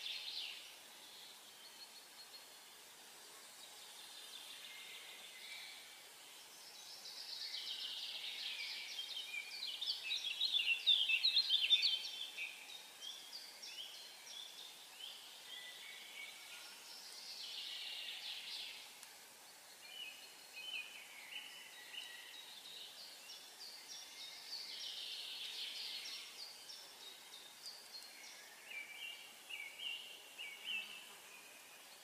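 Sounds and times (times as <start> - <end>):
faint steady hiss: 0.0 - 32.0
small birds chirping: 0.0 - 32.0.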